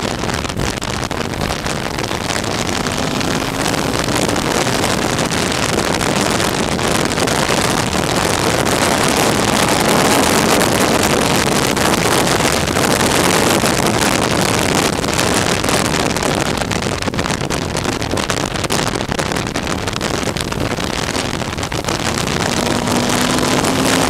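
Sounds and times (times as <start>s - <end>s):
motorcycle engine running: 0.0s - 17.4s, 18.1s - 24.0s
wind buffeting microphone: 0.0s - 24.0s.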